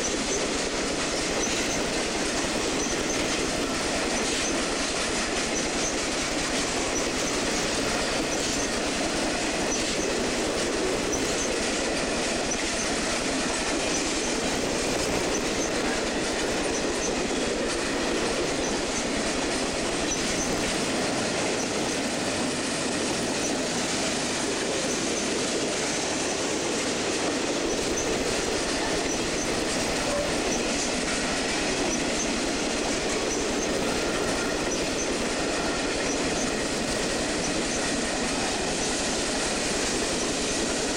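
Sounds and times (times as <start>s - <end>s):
steel wheels rolling on rail: 0.0s - 40.9s.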